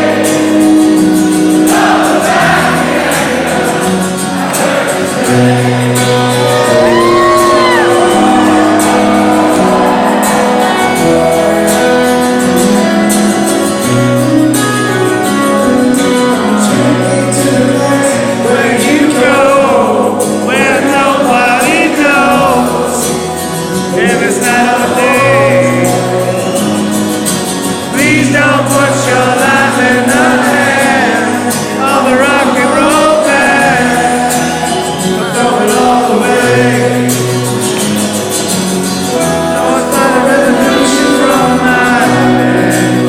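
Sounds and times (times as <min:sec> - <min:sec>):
live rock band with singing: 0:00.0 - 0:43.0.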